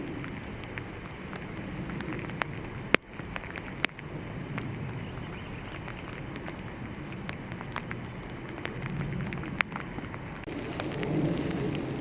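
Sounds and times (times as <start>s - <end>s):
raindrop hits ticking: 0.0s - 12.0s
steady rain: 0.0s - 12.0s.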